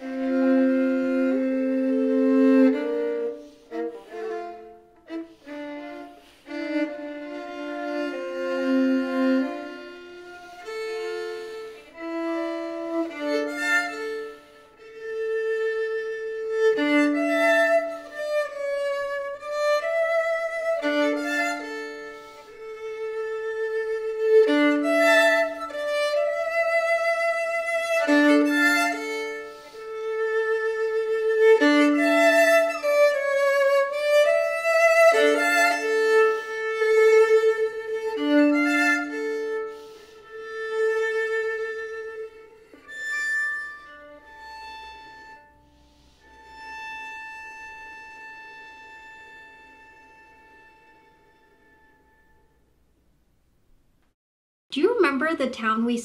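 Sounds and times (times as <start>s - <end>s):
solo violin bowed: 0.0s - 52.7s.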